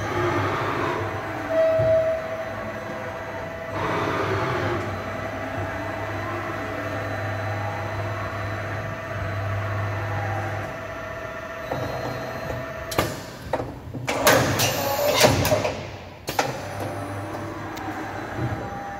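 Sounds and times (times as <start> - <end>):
machine steady mechanical hum: 0.0 - 18.9.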